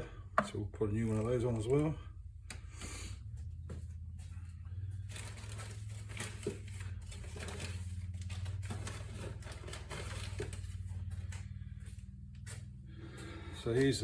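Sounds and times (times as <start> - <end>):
engine parts clicking and rattling: 0.0 - 14.0
steady low hum: 0.0 - 14.0.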